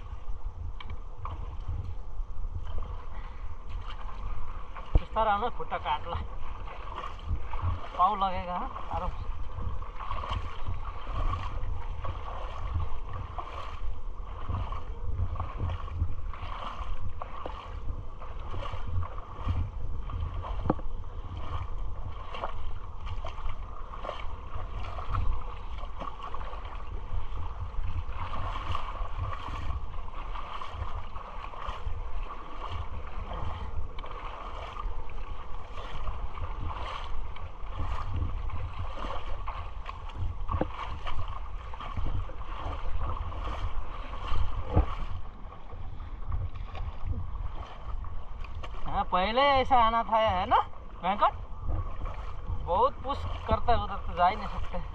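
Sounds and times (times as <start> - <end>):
water sloshing from wading: 0.0 - 54.9
wind rumble on microphone: 0.0 - 54.9.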